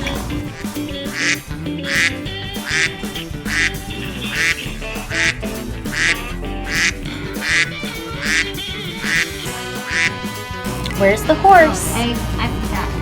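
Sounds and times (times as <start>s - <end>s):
background music: 0.0s - 13.0s
duck quacking: 0.0s - 13.0s.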